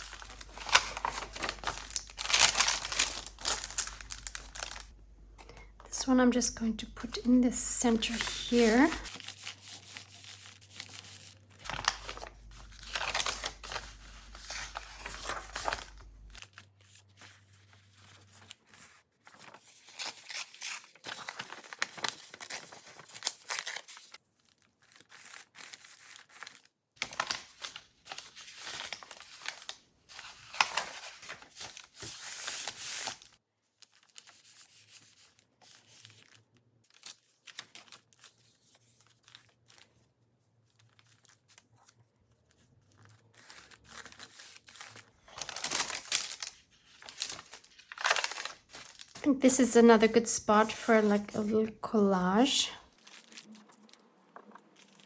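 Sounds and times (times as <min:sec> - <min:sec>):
paper crinkling: 0:00.0 - 0:04.9, 0:08.0 - 0:49.6, 0:50.6 - 0:51.5, 0:52.9 - 0:55.0
paper tearing and rustling: 0:00.0 - 0:04.9, 0:08.1 - 0:40.1, 0:40.7 - 0:49.2, 0:52.9 - 0:55.0.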